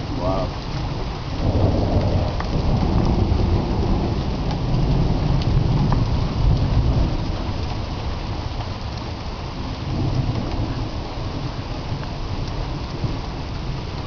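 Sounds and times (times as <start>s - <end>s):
heavy rain: 0.0s - 14.0s
thunder rumbling: 0.0s - 14.0s.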